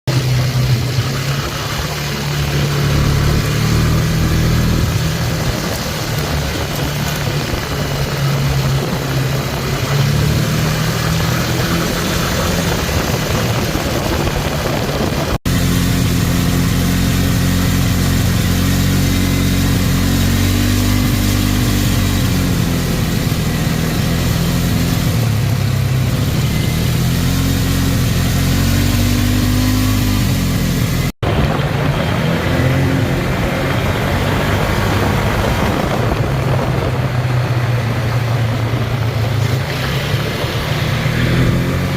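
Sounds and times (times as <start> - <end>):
atv engine running and revving: 0.0 - 41.9.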